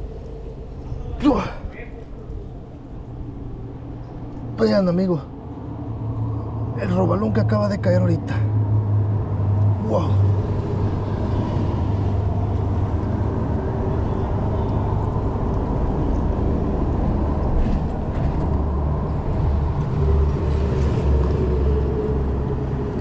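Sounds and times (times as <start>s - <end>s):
constant rumble: 0.0s - 23.0s
low engine drone: 0.0s - 23.0s.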